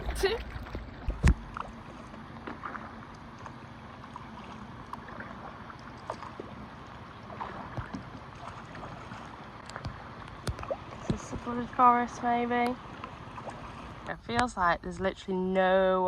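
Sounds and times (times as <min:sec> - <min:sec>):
small paddle splashes: 0:00.0 - 0:14.5
water lapping against hull: 0:00.0 - 0:16.0.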